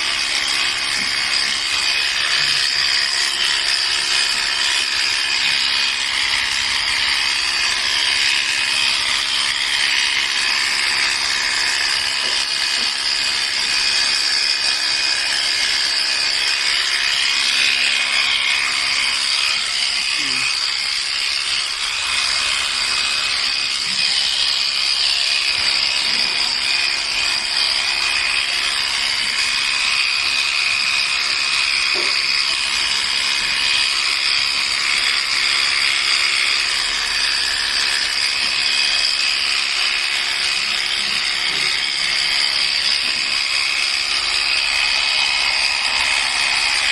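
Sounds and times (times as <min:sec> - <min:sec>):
electric clippers whining: 0:00.0 - 0:46.9.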